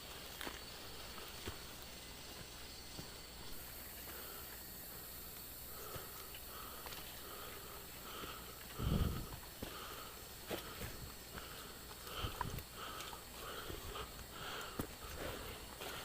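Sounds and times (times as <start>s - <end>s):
high insect-like buzz and hiss: 0.0s - 16.0s.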